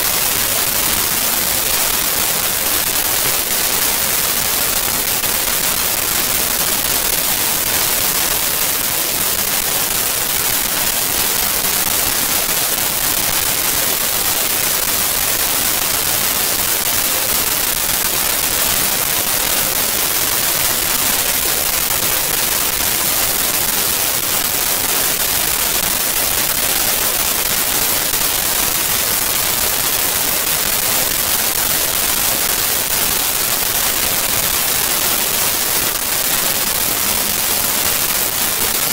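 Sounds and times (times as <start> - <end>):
loud steady hiss: 0.0 - 38.9.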